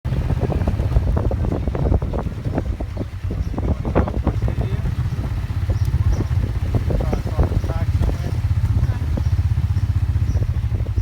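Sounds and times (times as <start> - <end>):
wind buffeting microphone: 0.0 - 11.0
motorbike engine running: 0.1 - 11.0.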